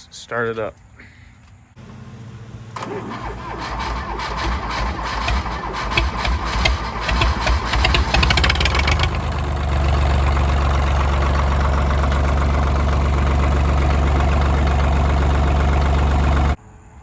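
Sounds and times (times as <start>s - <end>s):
tractor diesel engine idling: 1.8s - 16.6s.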